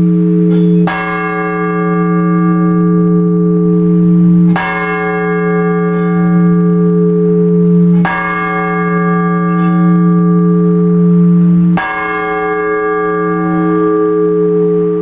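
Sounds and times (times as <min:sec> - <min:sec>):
large church bell ringing: 0:00.0 - 0:15.0.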